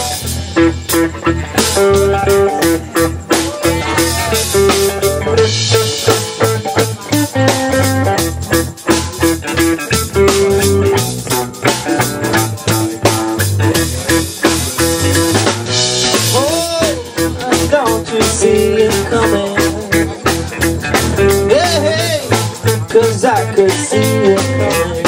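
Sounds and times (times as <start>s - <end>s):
upbeat band music: 0.0s - 25.0s.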